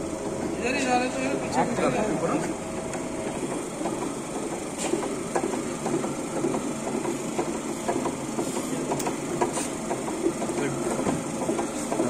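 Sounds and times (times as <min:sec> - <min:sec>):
workshop machine humming: 0:00.0 - 0:12.0.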